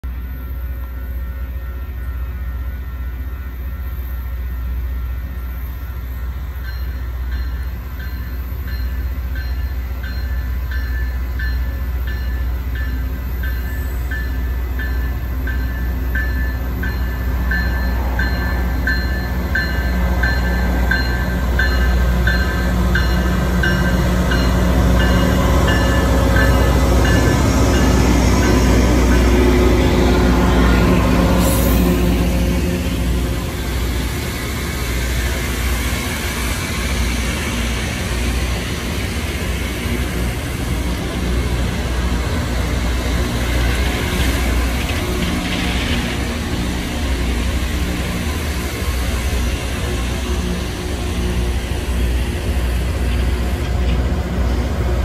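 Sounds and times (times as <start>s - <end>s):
train engine rumble: 0.0s - 55.0s.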